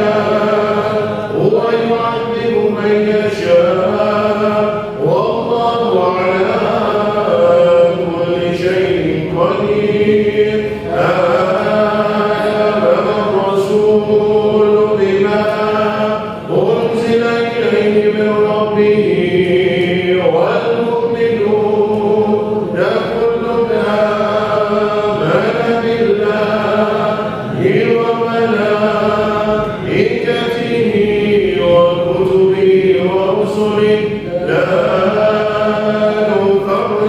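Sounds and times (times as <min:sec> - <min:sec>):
group of voices chanting: 0:00.0 - 0:37.0.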